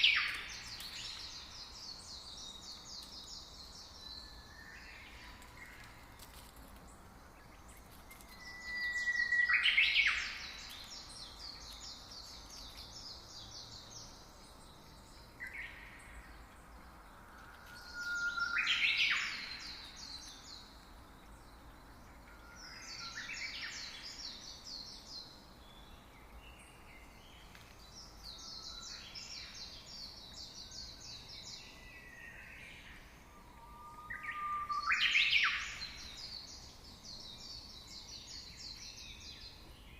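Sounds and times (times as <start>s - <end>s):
faint background hiss: 0.0s - 39.9s
songbird singing: 0.0s - 39.9s.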